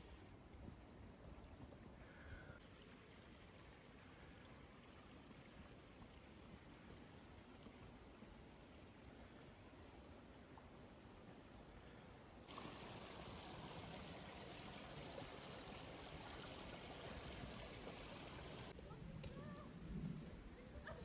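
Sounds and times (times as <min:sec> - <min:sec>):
flowing stream: 0:01.8 - 0:18.8.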